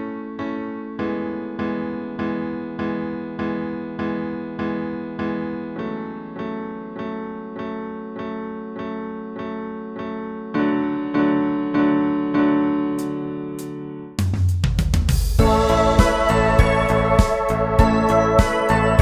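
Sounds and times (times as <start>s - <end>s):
electric piano repeating a chord: 0.0s - 14.2s, 15.4s - 19.0s.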